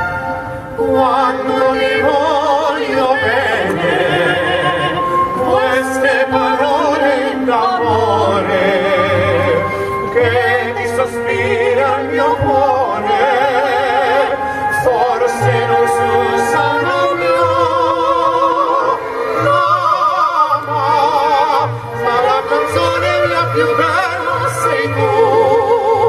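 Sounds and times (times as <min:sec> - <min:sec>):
instrumental accompaniment: 0:00.0 - 0:26.0
two men singing operatic duet: 0:00.7 - 0:26.0.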